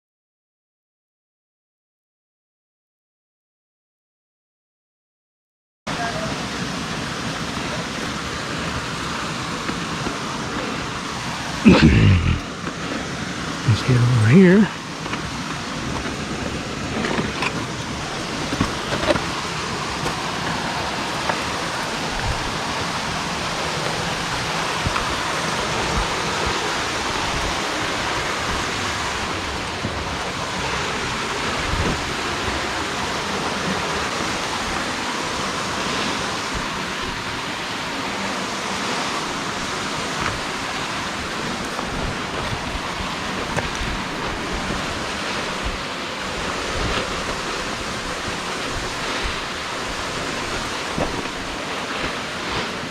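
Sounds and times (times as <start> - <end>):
creek water flowing: 5.9 - 52.9.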